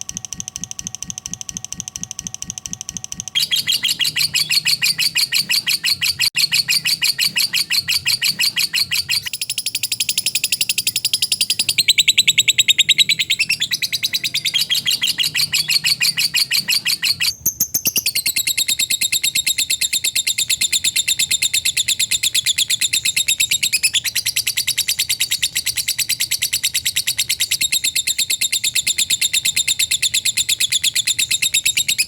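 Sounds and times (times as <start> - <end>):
lovebird chattering chirps: 3.4 - 32.0.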